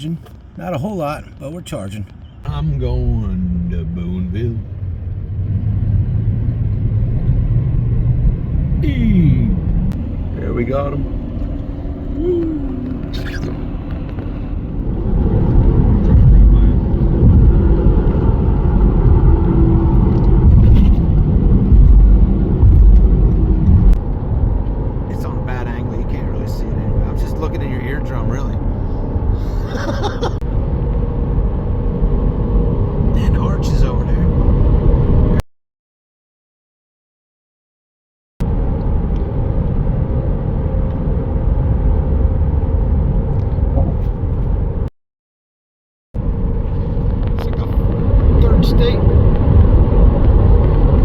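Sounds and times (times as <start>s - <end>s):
car road and wind noise: 0.0s - 35.4s, 38.4s - 44.9s, 46.2s - 51.0s.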